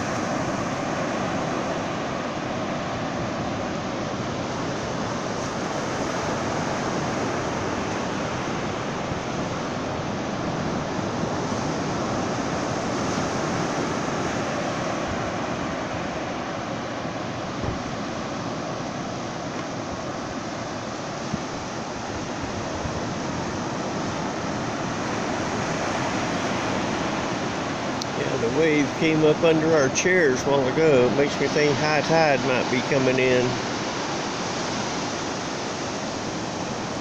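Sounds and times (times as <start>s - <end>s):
ocean waves breaking on beach: 0.0s - 37.0s.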